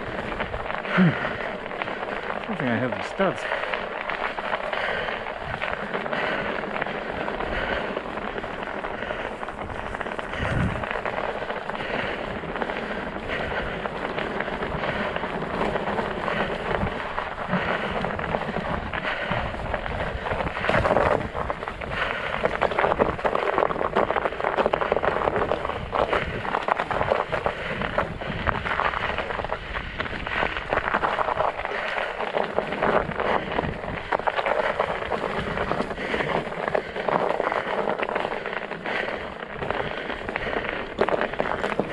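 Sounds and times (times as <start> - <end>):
bike tyres crunching on ice: 0.0 - 41.9.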